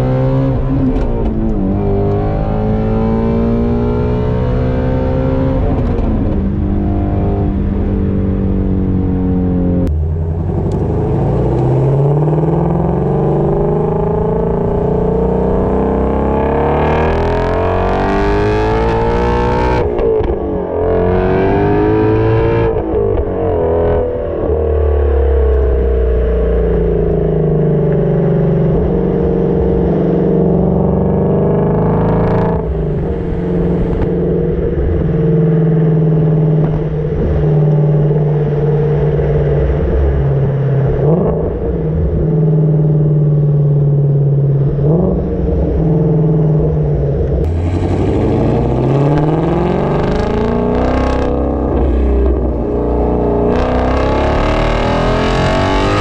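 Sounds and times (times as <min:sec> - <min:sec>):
car exhaust while driving: 0:00.0 - 0:56.0.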